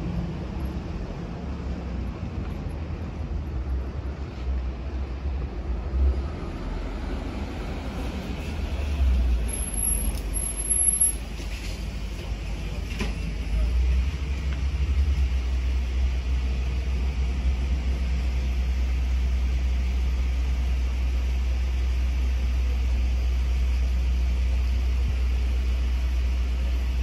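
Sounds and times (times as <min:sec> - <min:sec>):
jet engines rumbling overhead: 0:00.0 - 0:27.0.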